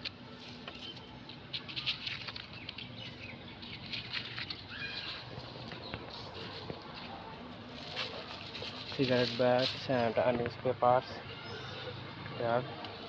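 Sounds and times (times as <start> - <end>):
leaves and plastic rustling: 0.0 - 13.0.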